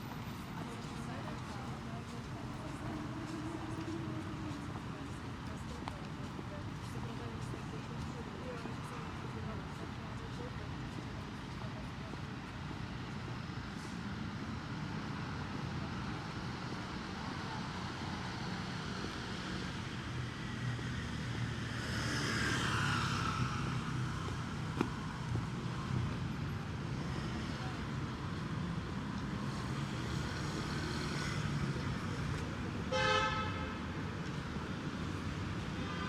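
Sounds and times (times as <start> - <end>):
hum of street traffic: 0.0 - 36.0.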